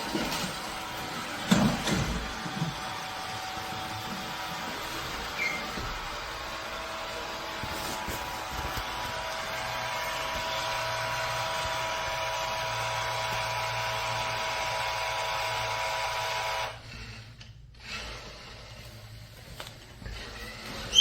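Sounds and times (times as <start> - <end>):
robot vacuum motor running: 0.0 - 17.2.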